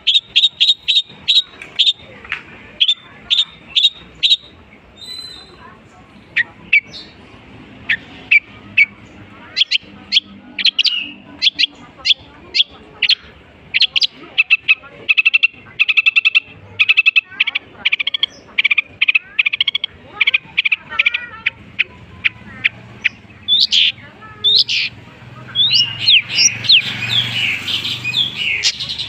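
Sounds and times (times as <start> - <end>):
shrike singing: 0.0 - 29.0.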